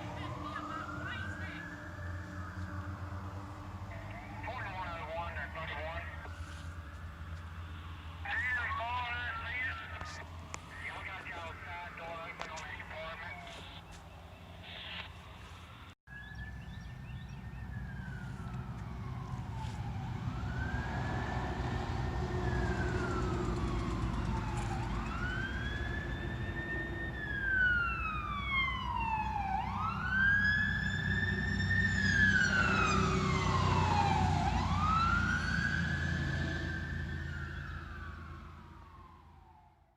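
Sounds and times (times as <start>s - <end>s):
fire engine siren wailing: 0.0s - 13.9s, 16.1s - 39.9s.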